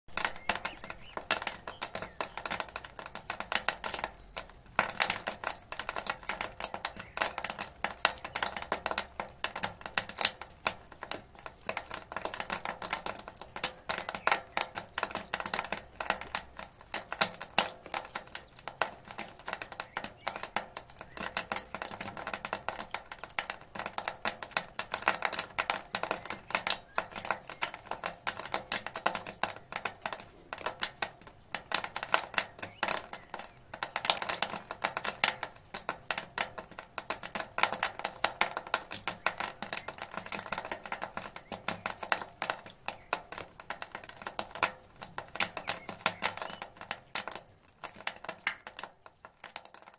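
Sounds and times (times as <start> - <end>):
rainwater dripping from gutter: 0.1 - 49.9.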